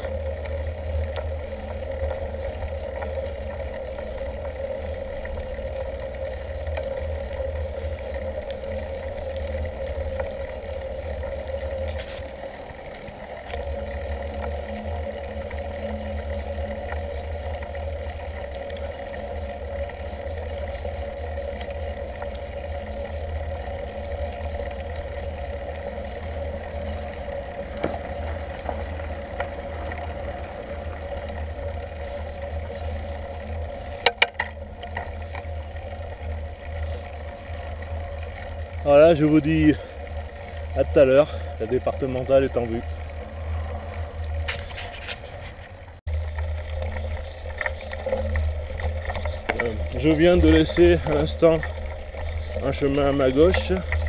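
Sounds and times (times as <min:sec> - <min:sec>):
bike tyres humming on tarmac: 0:00.0 - 0:54.0
wind rumbling on microphone: 0:00.0 - 0:54.0.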